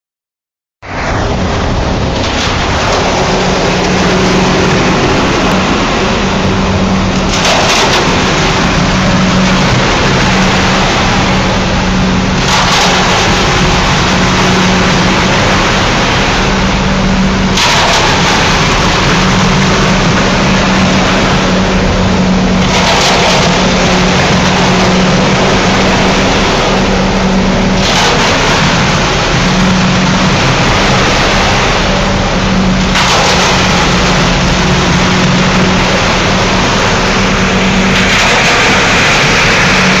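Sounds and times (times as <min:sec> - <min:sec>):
engine humming: 0:00.8 - 0:40.0
concrete mixer drum turning: 0:01.7 - 0:40.0.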